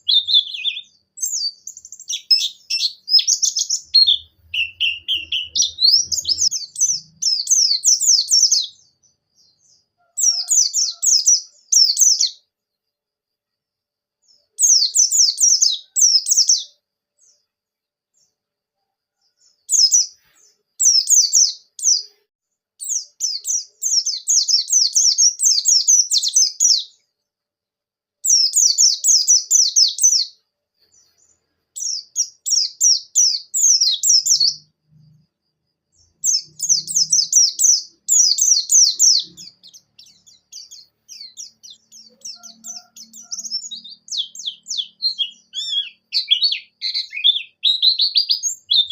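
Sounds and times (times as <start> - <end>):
white-eye bird singing: 0.0 - 12.5, 14.2 - 17.5, 19.2 - 22.2, 22.8 - 27.2, 28.2 - 35.3, 35.9 - 48.9.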